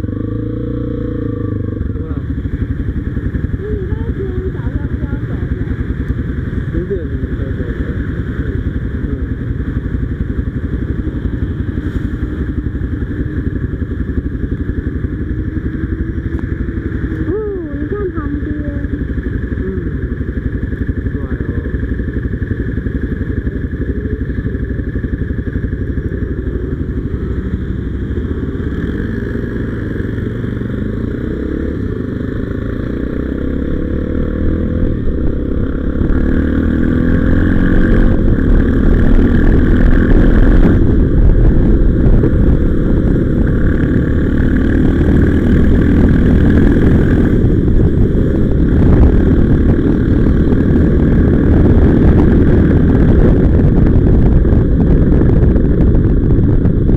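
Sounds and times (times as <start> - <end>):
motorcycle engine pulling away: 10.6 - 56.9.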